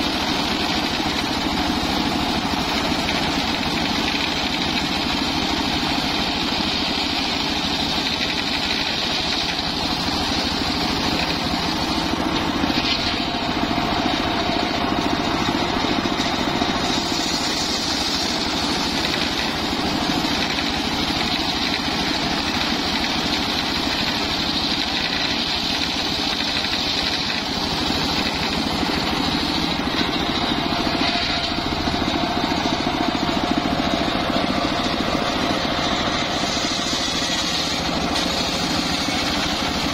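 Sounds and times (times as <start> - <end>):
circular saw ripping a log: 0.0 - 39.9.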